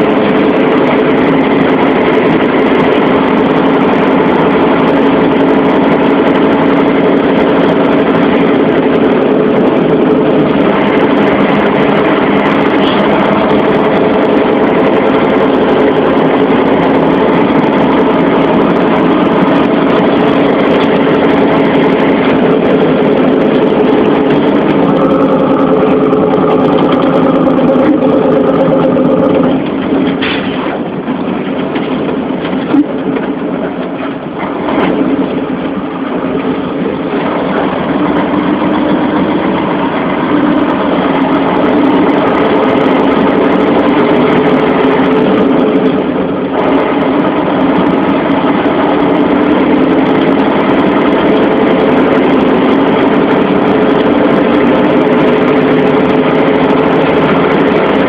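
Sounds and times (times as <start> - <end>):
heavy vehicle engine running: 0.0 - 58.0.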